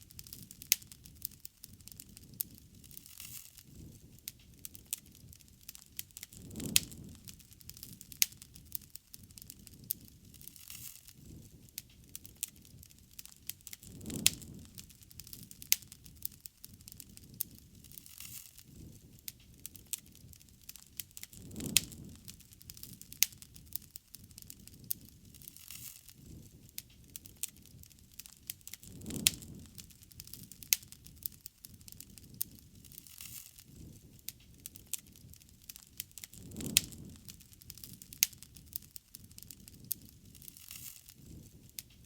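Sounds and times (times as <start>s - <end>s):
bonfire crackling and popping: 0.0s - 42.0s
whoosh of flame: 0.0s - 42.0s.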